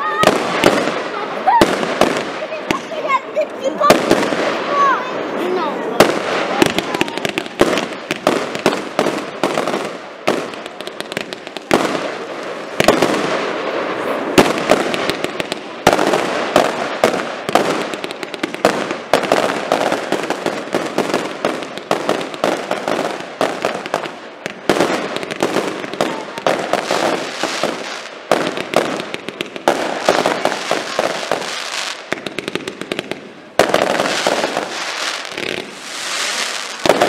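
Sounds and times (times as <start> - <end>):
fireworks bangs: 0.0 - 37.0
fireworks crackling hiss: 0.0 - 37.0.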